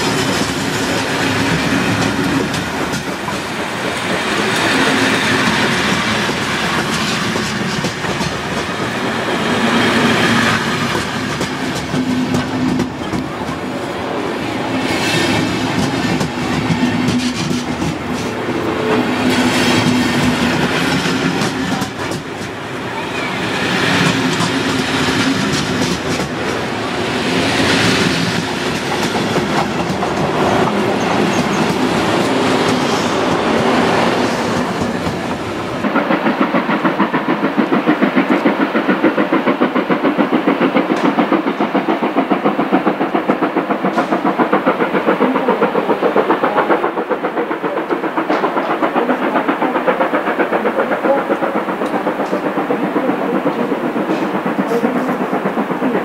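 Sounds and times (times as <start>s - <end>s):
steam locomotive exhaust beats: 0.0s - 56.0s
train wheels clattering over joints: 0.0s - 56.0s.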